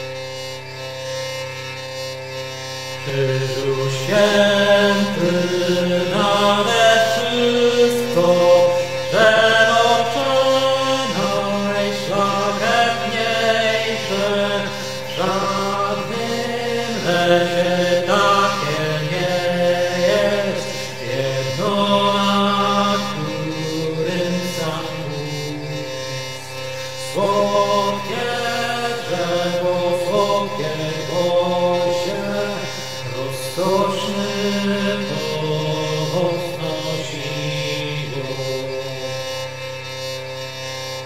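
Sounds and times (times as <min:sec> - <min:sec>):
steady low drone: 0:00.0 - 0:41.0
slow vocal chant: 0:03.0 - 0:39.8.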